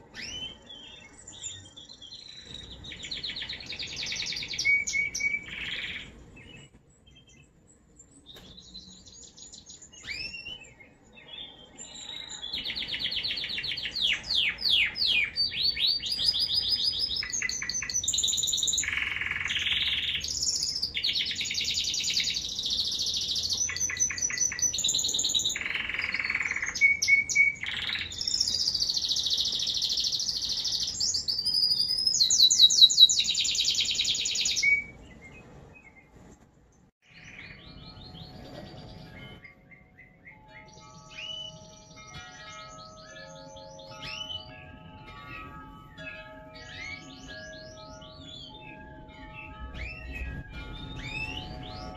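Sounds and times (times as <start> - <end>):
canary singing trills: 0.0 - 36.2, 36.8 - 51.9.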